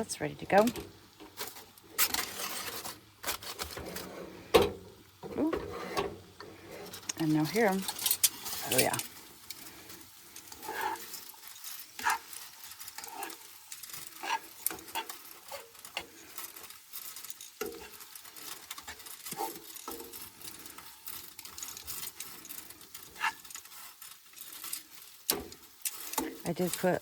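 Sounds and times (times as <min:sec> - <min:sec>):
vegetables sizzling in a pan: 0:00.0 - 0:27.0
utensil stirring and scraping: 0:00.5 - 0:04.6, 0:05.2 - 0:27.0.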